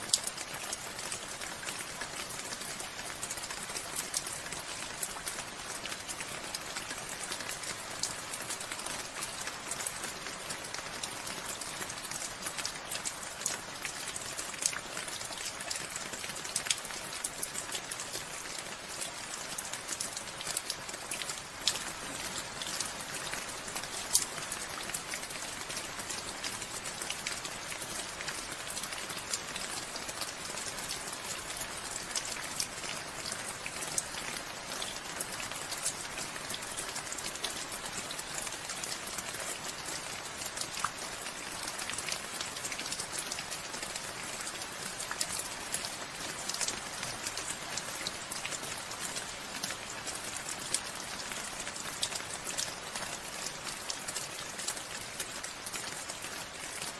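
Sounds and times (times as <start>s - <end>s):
raindrops clicking on a surface: 0.0s - 56.9s
steady rain falling: 0.0s - 56.9s.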